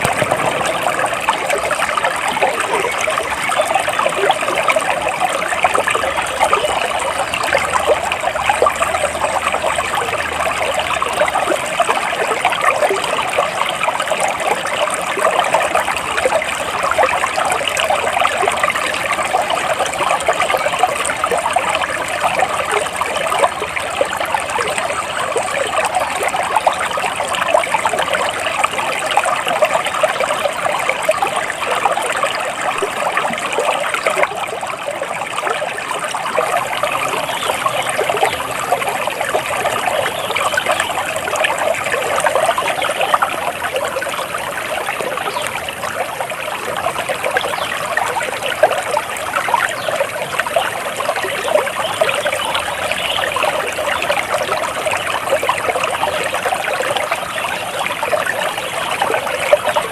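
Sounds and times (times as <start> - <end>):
water trickling and bubbling: 0.0 - 59.9.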